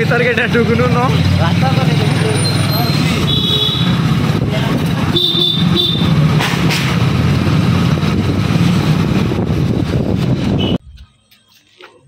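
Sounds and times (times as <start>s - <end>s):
wind and road noise: 0.0s - 11.2s.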